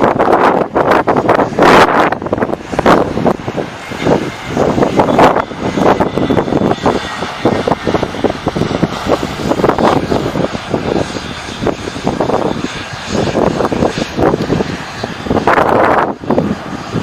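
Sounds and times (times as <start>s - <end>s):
airliner engines roaring: 0.0s - 17.0s
wind buffeting microphone: 0.0s - 17.0s.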